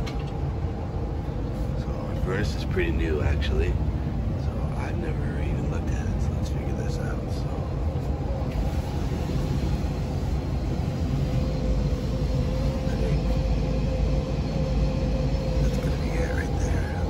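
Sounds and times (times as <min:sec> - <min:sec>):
faint constant whine: 0:00.0 - 0:17.0
furnace blower rumbling: 0:00.0 - 0:17.0.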